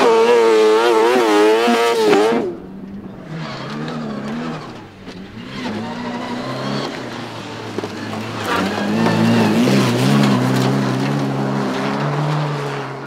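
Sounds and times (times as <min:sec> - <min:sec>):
car engine revving: 0:00.0 - 0:13.0
high-revving kart engine: 0:00.0 - 0:13.0.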